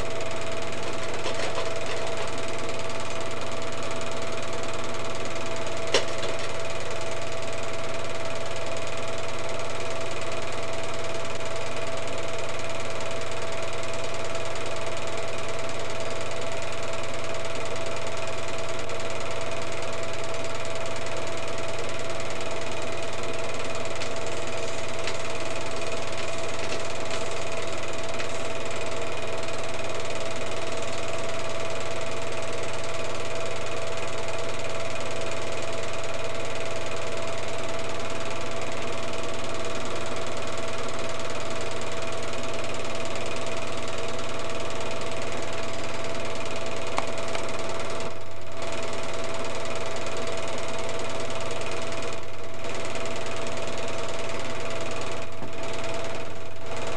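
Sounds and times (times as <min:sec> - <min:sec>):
film projector whirring: 0:00.0 - 0:56.9.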